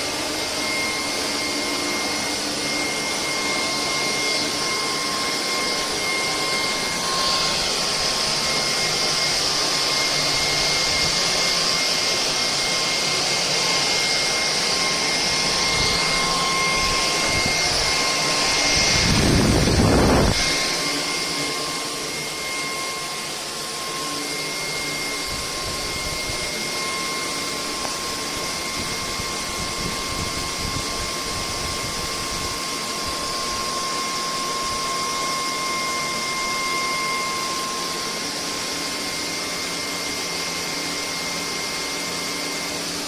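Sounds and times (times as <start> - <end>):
stick vacuum motor whine: 0.0 - 43.0.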